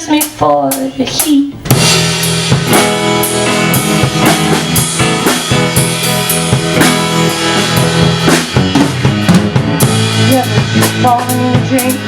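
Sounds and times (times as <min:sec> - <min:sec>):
drum kit beat: 0:00.0 - 0:12.0
electric guitar: 0:01.7 - 0:12.0.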